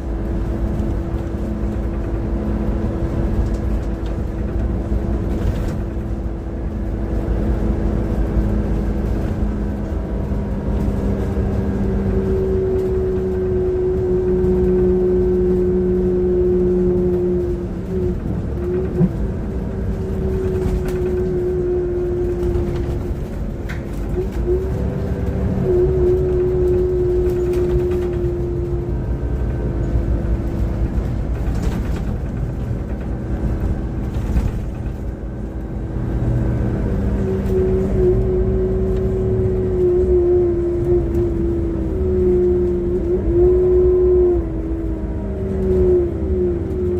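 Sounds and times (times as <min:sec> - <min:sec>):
bus engine rumble: 0:00.0 - 0:46.9
drivetrain whine: 0:00.0 - 0:46.9.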